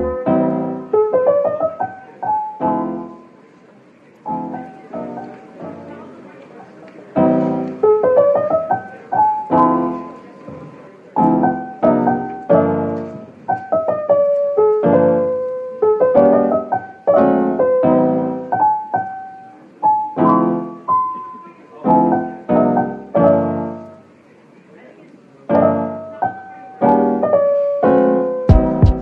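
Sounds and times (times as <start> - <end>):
piano music: 0.0 - 3.4, 4.2 - 6.2, 7.1 - 10.5, 11.1 - 24.1, 25.5 - 29.0.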